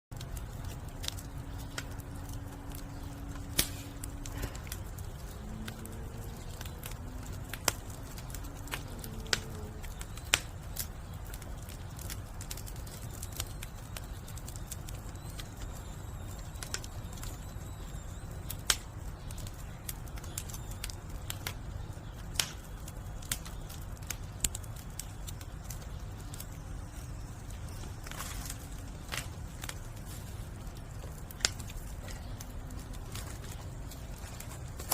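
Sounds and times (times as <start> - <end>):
firewood crackling and popping: 0.1 - 34.9.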